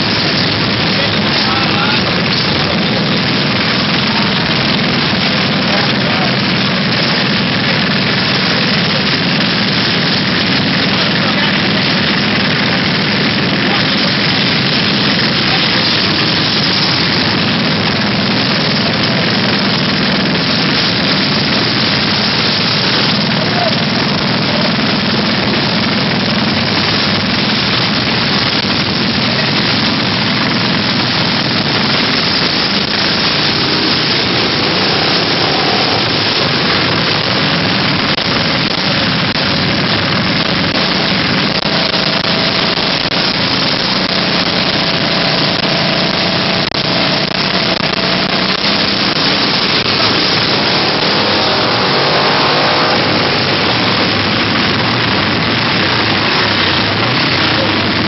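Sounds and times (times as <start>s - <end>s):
loud rushing noise: 0.0s - 58.0s
mini bike engines running: 0.0s - 58.0s.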